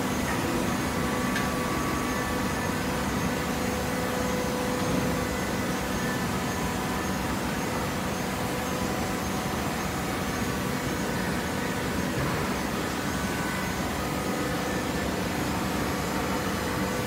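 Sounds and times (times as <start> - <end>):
hydraulic baler running: 0.0 - 17.0.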